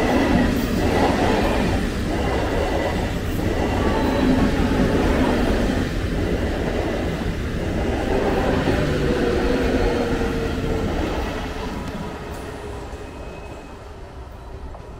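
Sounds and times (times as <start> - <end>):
train wheels rumbling on rails: 0.0 - 14.9
train whine: 0.0 - 14.9.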